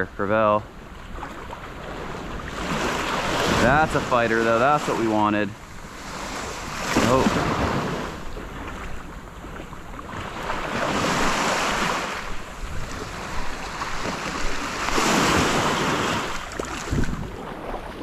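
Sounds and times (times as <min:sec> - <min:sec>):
wind buffeting microphone: 0:00.8 - 0:18.0
small waves washing on sand: 0:00.9 - 0:18.0.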